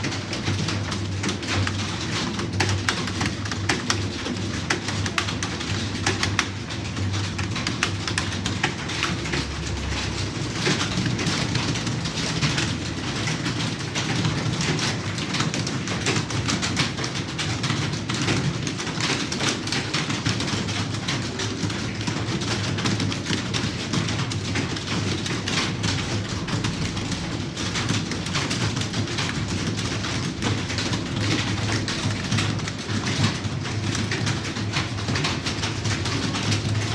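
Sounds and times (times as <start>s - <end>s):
typing on computer keyboard: 0.0s - 36.9s.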